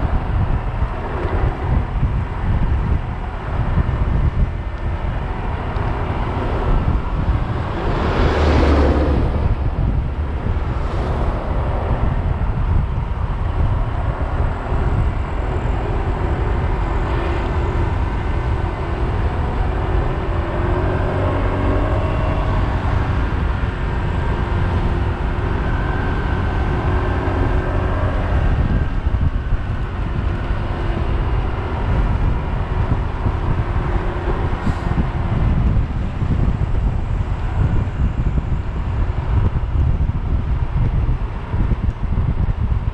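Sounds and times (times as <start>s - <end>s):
road noise: 0.0s - 42.9s
wind rushing over microphone: 0.0s - 42.9s.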